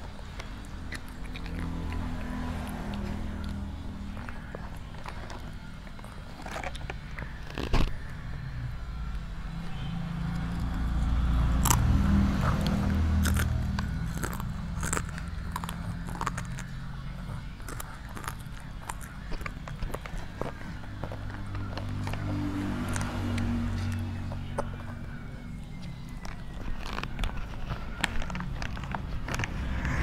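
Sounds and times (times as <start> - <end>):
toddler chewing crunchy snack: 0.0 - 30.0.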